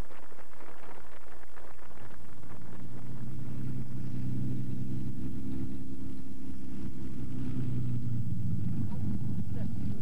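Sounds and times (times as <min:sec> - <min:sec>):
piston aircraft engines droning: 0:00.0 - 0:10.0.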